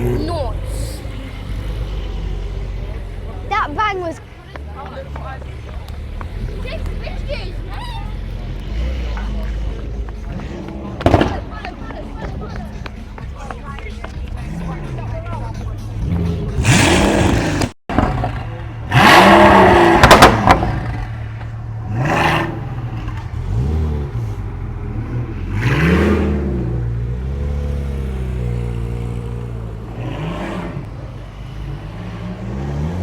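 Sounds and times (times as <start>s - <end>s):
sports car engine revving: 0.0s - 11.6s, 13.4s - 33.0s.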